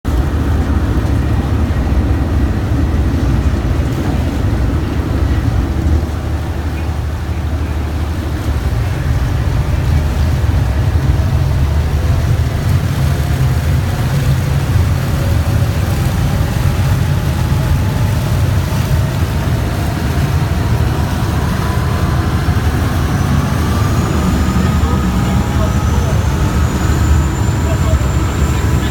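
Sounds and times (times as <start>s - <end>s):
boat engine rumbling: 0.0s - 28.9s
faint rising whine: 0.2s - 28.9s.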